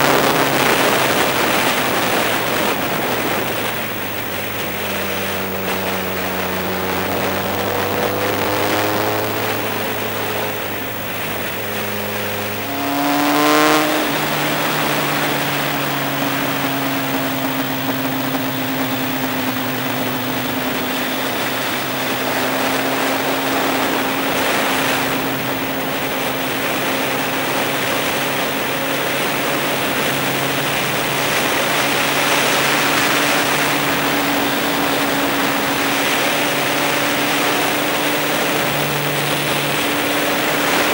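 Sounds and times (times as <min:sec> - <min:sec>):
motorcycle engine revving: 0:00.0 - 0:40.9
wind and road noise: 0:00.0 - 0:40.9.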